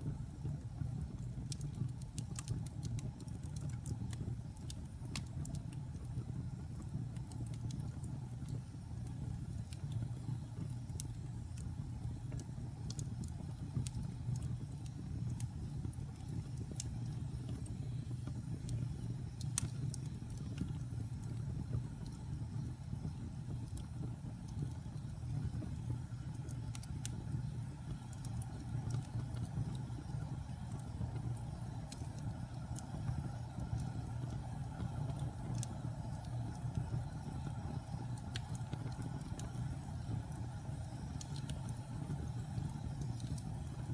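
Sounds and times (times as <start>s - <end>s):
burning wood crackling and popping: 0.0s - 43.9s
low rumble of flames: 0.0s - 43.9s.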